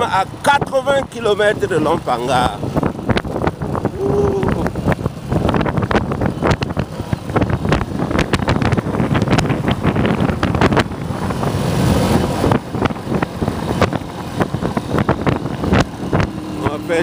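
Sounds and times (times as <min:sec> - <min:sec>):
motorcycle engine running: 0:00.0 - 0:17.0
wind on microphone: 0:00.0 - 0:17.0.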